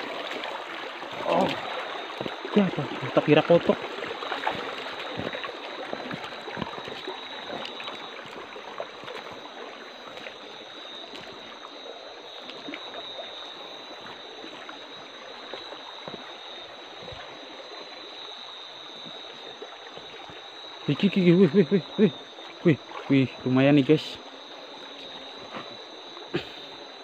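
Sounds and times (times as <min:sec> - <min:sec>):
small ticks and splashes: 0:00.0 - 0:27.0.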